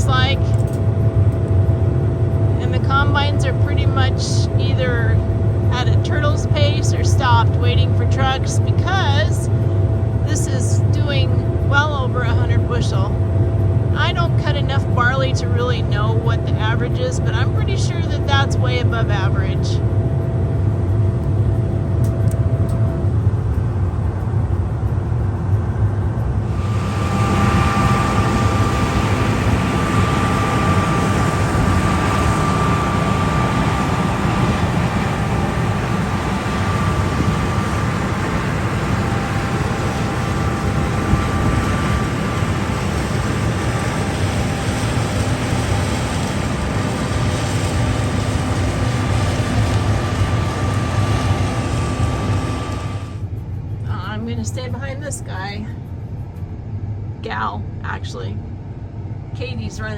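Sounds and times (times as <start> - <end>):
combine harvester drone: 0.0 - 59.9
hissing with high whine: 0.0 - 59.9.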